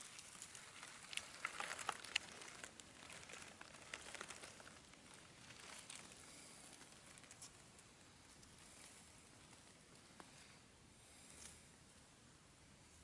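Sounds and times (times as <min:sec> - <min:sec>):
dry leaves and twigs crackling: 0:00.0 - 0:10.5.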